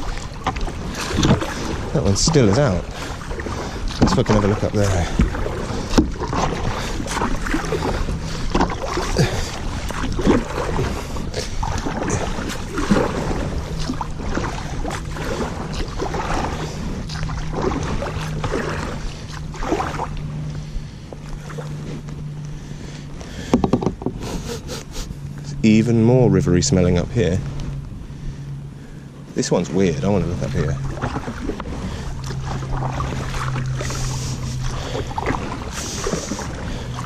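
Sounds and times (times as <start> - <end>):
canoe paddle splashing: 0.0 - 37.0
steady low hum: 0.0 - 37.0.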